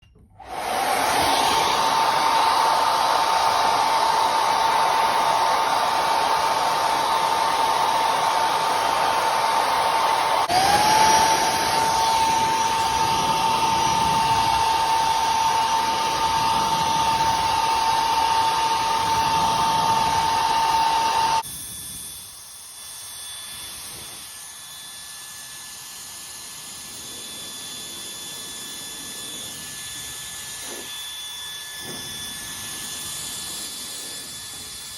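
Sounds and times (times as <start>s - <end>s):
hair dryer blowing: 0.1s - 21.5s, 23.6s - 34.9s.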